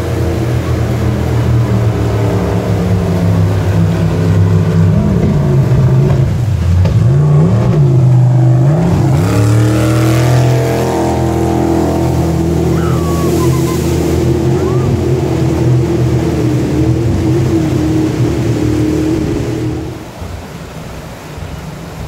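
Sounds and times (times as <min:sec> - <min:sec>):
jet boat engine running hard: 0:00.0 - 0:22.0.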